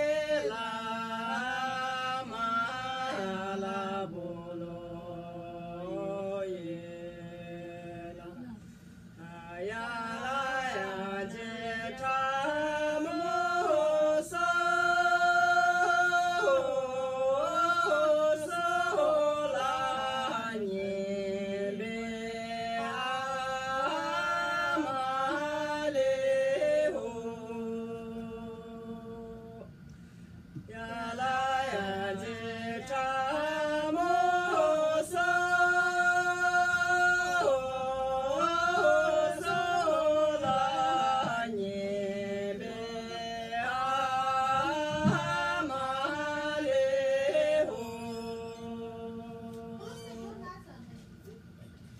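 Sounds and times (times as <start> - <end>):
women singing unaccompanied: 0.0 - 29.8, 30.5 - 50.6.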